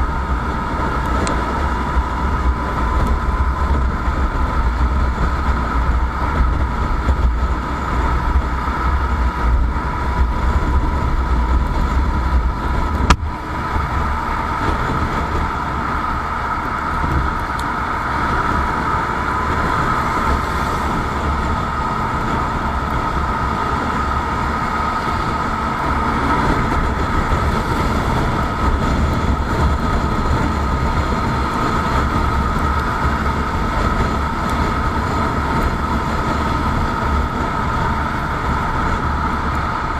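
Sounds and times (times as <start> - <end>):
motorcycle engine and road noise: 0.0 - 39.9
steady high whine: 0.0 - 39.9
wind rumble on microphone: 0.0 - 39.9.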